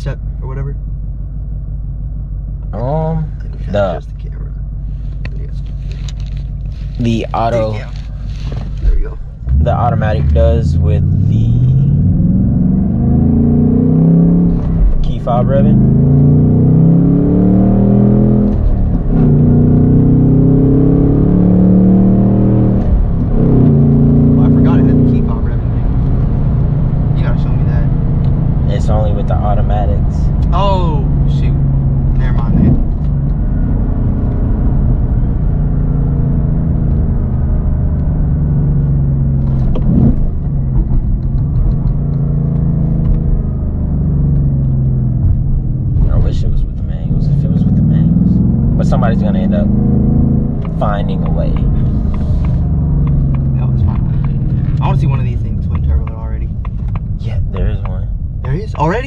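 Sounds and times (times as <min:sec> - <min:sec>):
car engine accelerating: 0:00.0 - 0:59.0
road noise: 0:00.0 - 0:59.0.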